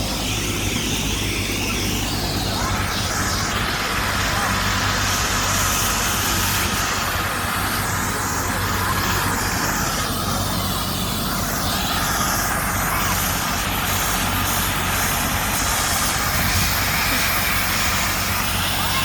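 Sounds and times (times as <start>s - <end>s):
helicopter rotor and engine noise: 0.0s - 19.0s.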